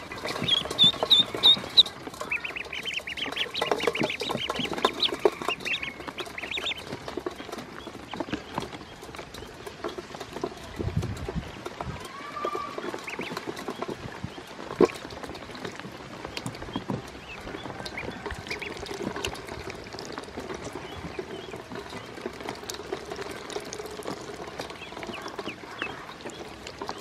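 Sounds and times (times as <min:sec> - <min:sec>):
ducklings peeping: 0:00.0 - 0:27.0
ducklings splashing in water: 0:00.0 - 0:27.0.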